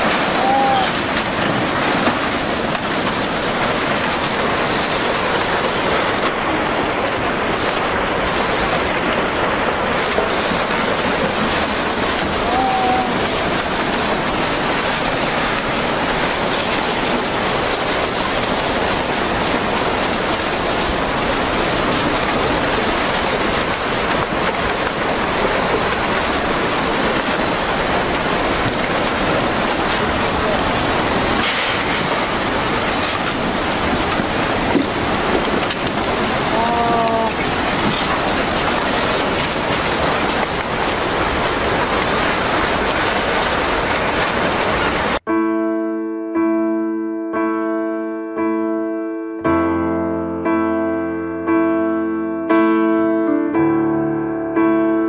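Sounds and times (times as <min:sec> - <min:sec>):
floodwater rushing with debris: 0:00.0 - 0:45.3.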